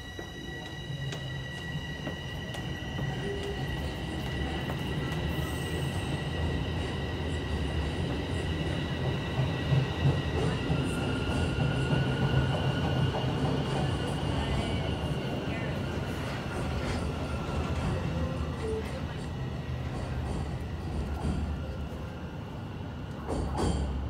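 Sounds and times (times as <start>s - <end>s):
subway train wheels rumbling: 0.0s - 24.0s.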